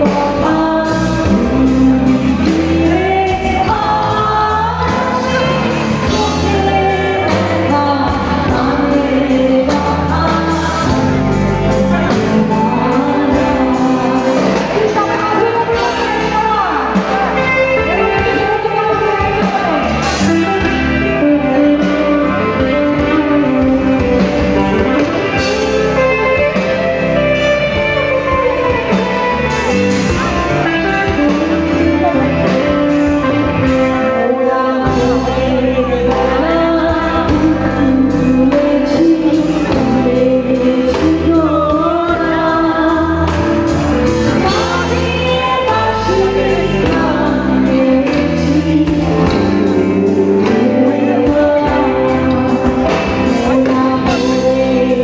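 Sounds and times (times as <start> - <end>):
woman singing into microphone: 0.0 - 29.3, 29.9 - 55.0
live rock band playing: 0.0 - 55.0.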